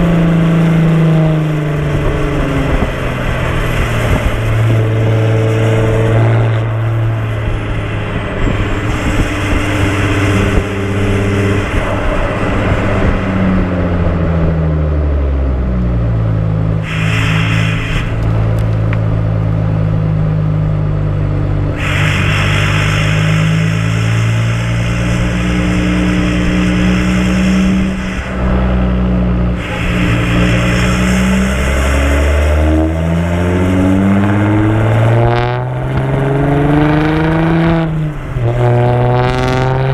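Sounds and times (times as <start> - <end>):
diesel engine through straight exhaust: 0.0 - 39.9.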